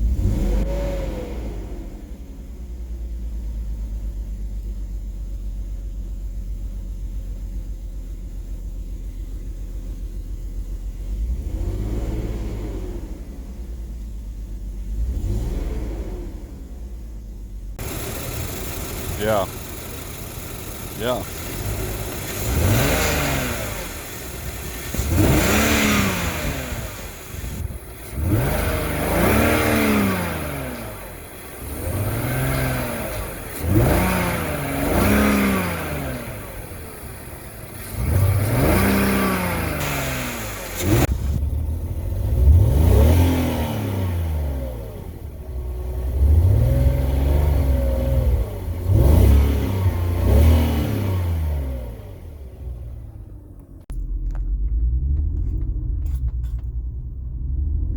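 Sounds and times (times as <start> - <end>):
car engine revving: 0.0 - 2.8, 9.0 - 57.9.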